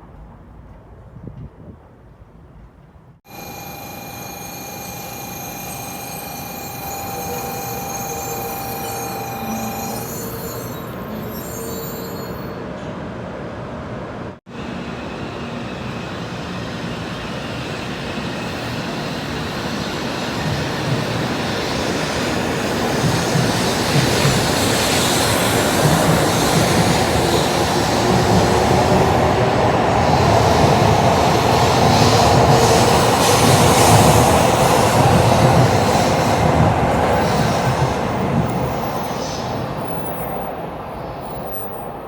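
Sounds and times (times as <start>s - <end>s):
bullet train rushing past: 3.3s - 42.0s.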